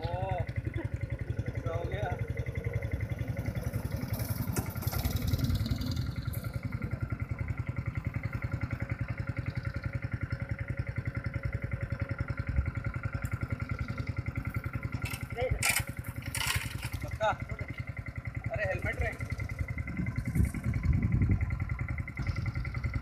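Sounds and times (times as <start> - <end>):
go-kart engine running: 0.0 - 23.0.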